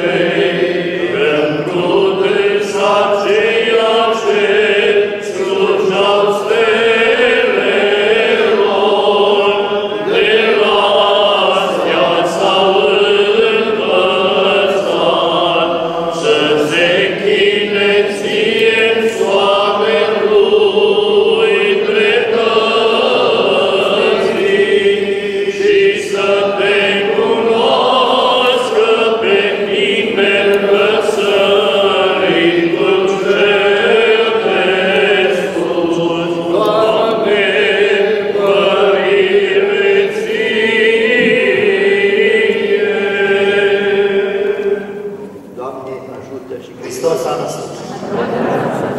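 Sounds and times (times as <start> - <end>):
men singing a church chant: 0.0 - 45.3.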